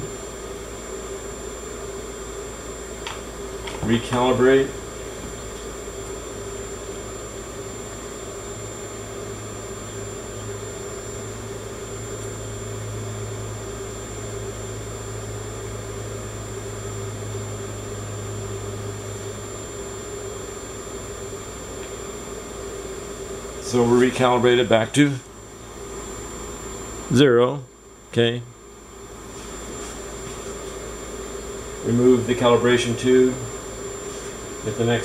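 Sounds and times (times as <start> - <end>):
electrical hum with fan noise: 0.0 - 35.0.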